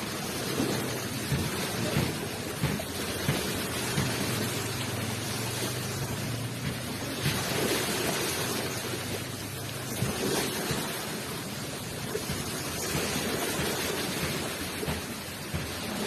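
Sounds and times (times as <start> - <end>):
surf washing onto shore: 0.0 - 16.0.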